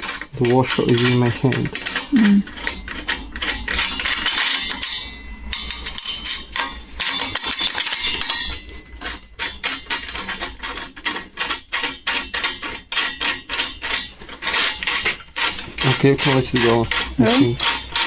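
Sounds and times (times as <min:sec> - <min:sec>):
metal tools clinking: 0:00.0 - 0:18.0.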